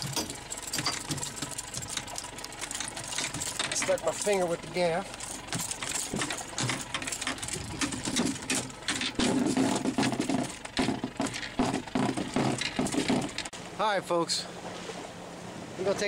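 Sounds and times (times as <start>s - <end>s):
fish tail slapping boat: 0.0s - 13.8s, 14.5s - 16.0s.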